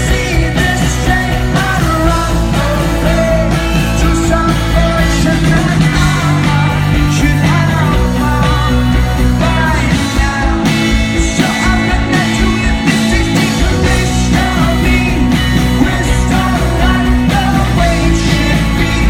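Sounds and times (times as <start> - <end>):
lead singer singing: 0.0 - 19.0
rock band playing: 0.0 - 19.0.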